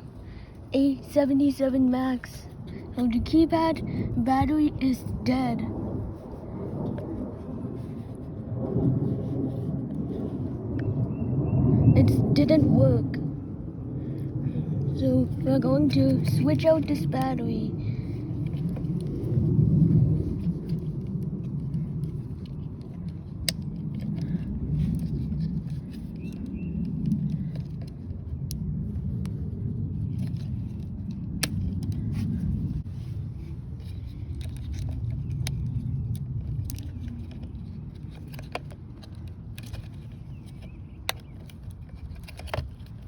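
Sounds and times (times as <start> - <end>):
low rumble: 2.2 - 40.7.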